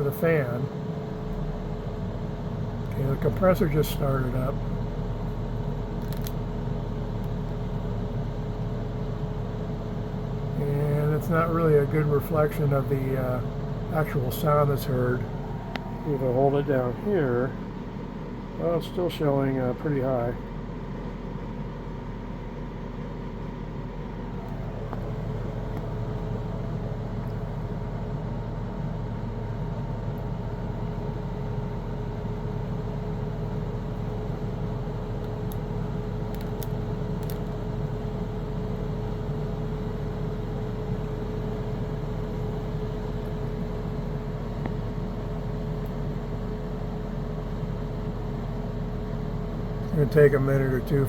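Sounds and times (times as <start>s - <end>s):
air conditioner fan rush: 0.0s - 51.0s
compressor whine: 0.0s - 51.0s.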